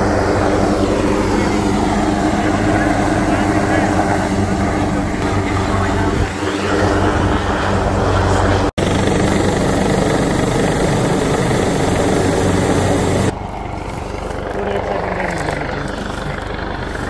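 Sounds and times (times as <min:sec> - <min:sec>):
helicopter rotor and engine noise: 0:00.0 - 0:17.0.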